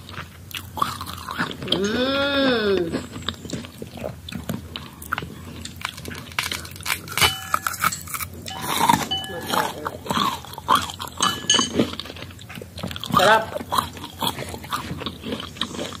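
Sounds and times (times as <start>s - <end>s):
crunching and chewing mango: 0.0s - 16.0s.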